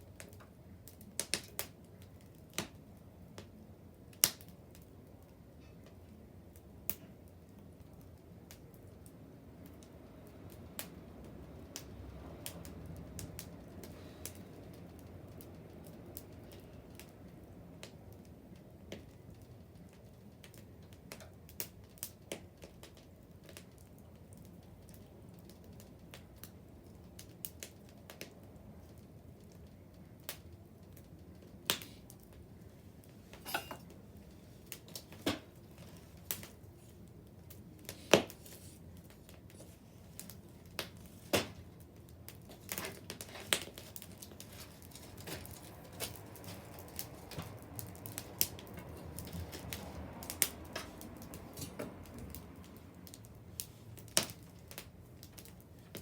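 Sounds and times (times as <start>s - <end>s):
fire pops and snaps: 0.0s - 5.1s, 5.8s - 56.0s
low rush of burning fire: 0.0s - 56.0s.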